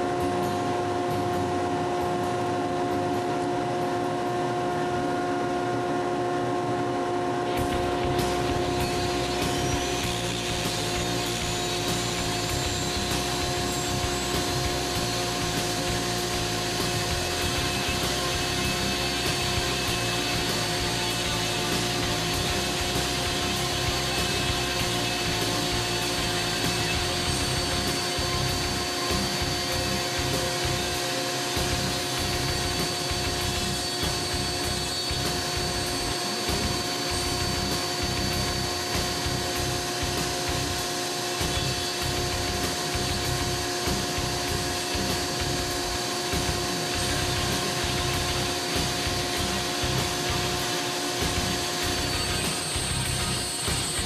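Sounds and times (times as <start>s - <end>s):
dust collector vacuum drone: 0.0s - 54.0s
rotary tool grinding wood: 7.7s - 54.0s.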